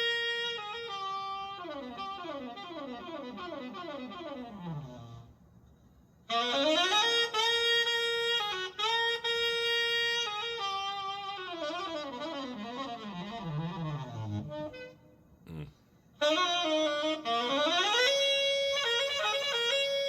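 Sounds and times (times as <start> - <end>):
tenor saxophone playing: 0.0 - 5.4, 6.3 - 15.2, 16.2 - 20.0.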